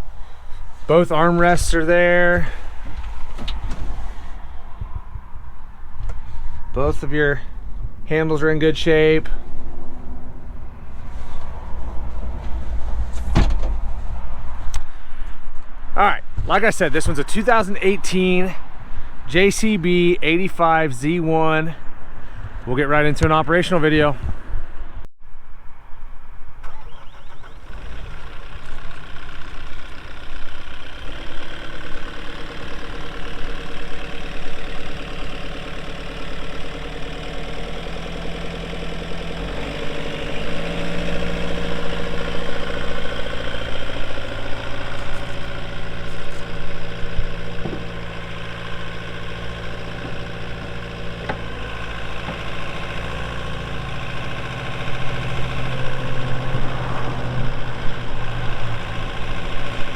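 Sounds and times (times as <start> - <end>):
excavator diesel engine running: 0.0 - 15.1, 26.7 - 59.9.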